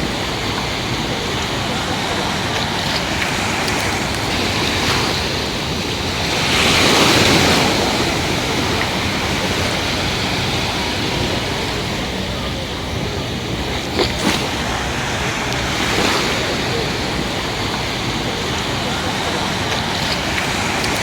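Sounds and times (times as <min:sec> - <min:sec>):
sea waves breaking on beach: 0:00.0 - 0:21.0.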